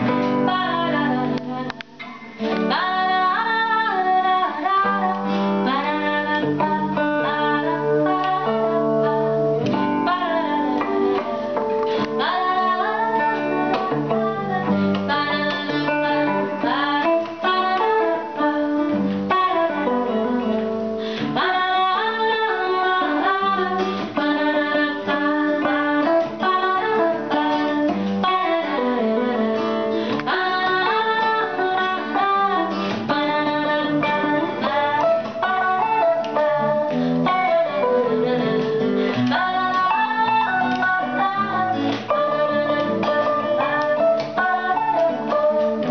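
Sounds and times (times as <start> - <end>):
acoustic guitar: 0.0 - 45.9
electric guitar through amplifier: 0.0 - 45.9.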